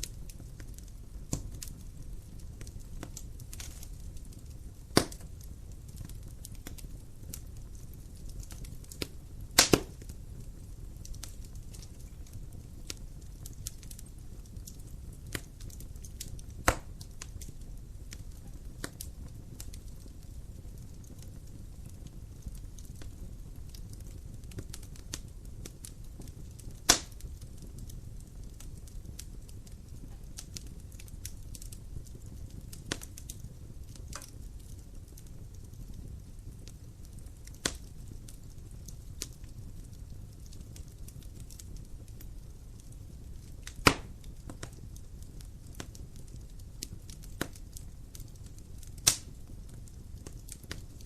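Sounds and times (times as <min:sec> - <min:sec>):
fire flames rumbling: 0:00.0 - 0:51.0
loud sharp pops from fire: 0:00.0 - 0:51.0
wood fire crackling: 0:00.0 - 0:51.0.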